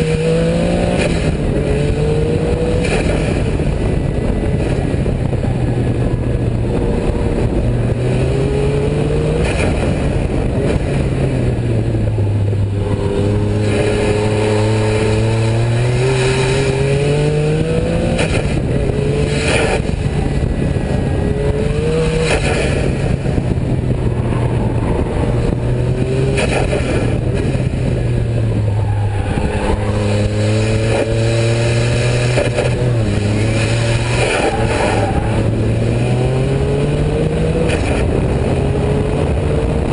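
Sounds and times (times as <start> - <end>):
road and wind noise: 0.0 - 39.9
sharp noise at gear changes: 0.0 - 39.9
sports car engine accelerating: 0.0 - 39.9.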